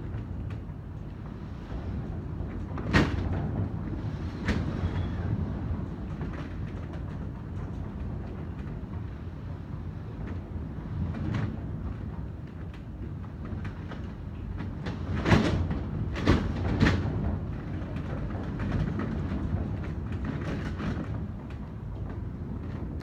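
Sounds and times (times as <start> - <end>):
storm wind rumbling: 0.0 - 23.0.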